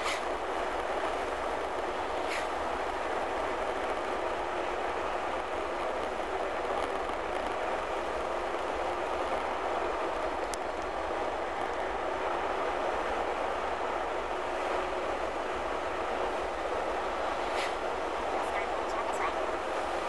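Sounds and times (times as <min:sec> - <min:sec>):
tyres on wet pavement: 0:00.0 - 0:20.0
vehicle cabin road noise: 0:00.0 - 0:20.0.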